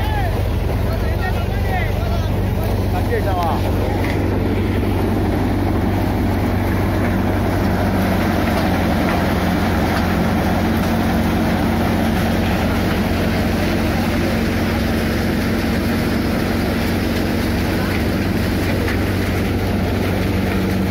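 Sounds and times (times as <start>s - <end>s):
thresher engine drone: 0.0s - 20.9s.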